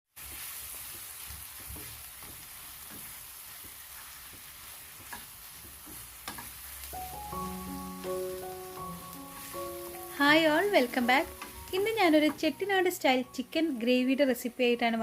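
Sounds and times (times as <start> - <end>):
food sizzling in a pan: 0.1 - 15.0.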